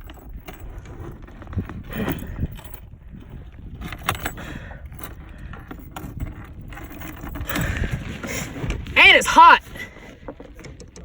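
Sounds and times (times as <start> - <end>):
fishing gear clattering: 0.0 - 11.0.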